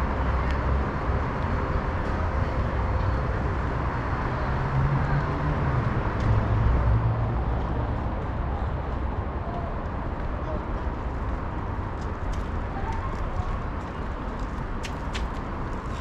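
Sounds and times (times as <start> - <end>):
vehicle engines and tyre noise: 0.0 - 16.0.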